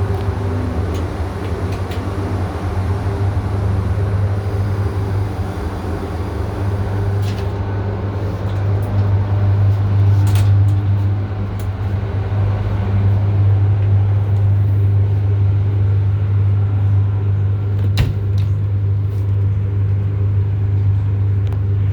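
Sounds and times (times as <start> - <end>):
low machinery hum: 0.0 - 21.9.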